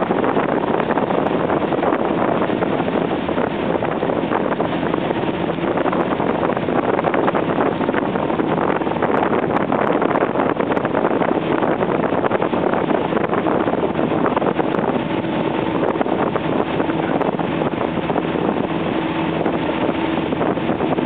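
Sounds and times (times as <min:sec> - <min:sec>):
boat engine: 0:00.0 - 0:21.0
churning wake water: 0:00.0 - 0:21.0
wind buffeting microphone: 0:00.0 - 0:21.0.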